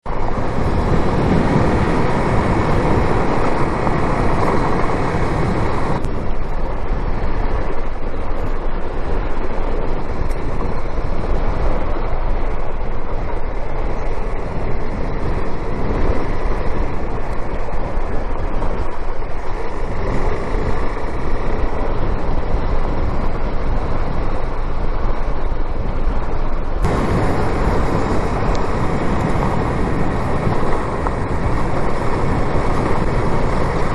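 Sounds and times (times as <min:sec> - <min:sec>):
car road and engine noise: 0:00.0 - 0:33.9.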